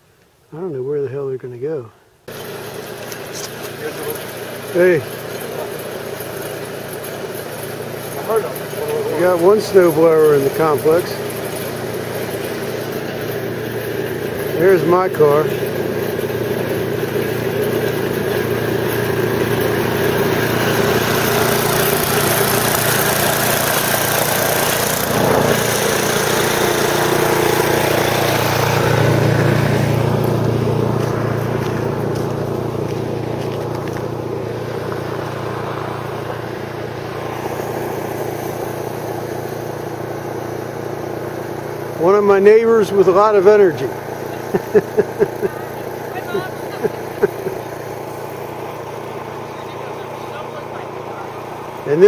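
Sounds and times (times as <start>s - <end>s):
snowblower engine running: 2.3s - 52.0s.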